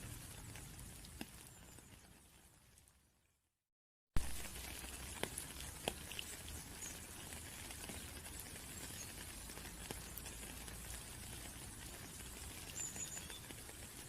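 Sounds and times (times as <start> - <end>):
rain drops pattering: 0.0 - 3.4, 4.2 - 14.0.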